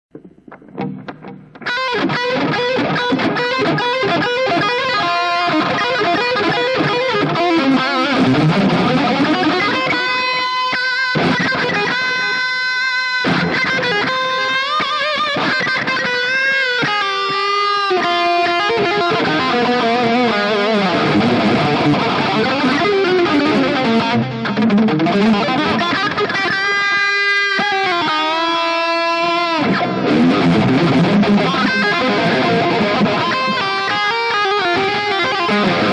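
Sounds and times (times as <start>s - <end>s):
distorted electric guitar shredding: 0.1s - 35.9s.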